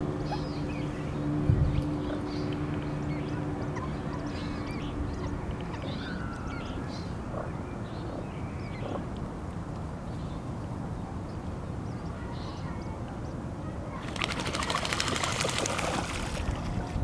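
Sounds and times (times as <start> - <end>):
steady background hum: 0.0 - 17.0
waterbirds chirping: 0.0 - 17.0.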